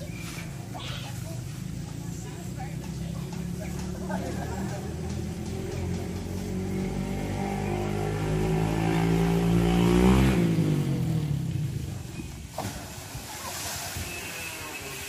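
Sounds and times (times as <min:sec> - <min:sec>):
engine passing by: 0:00.0 - 0:14.0.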